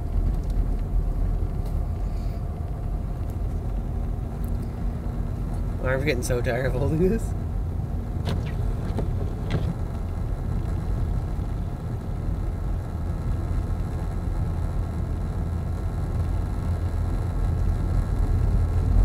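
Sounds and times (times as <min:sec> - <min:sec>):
car engine and tyres on snow: 0:00.0 - 0:19.0.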